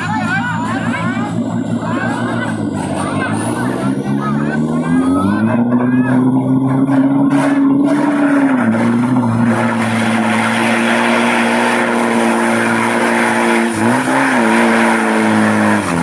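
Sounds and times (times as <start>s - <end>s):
truck engine at high revs: 0.0s - 16.0s
wheels spinning in mud: 0.0s - 16.0s.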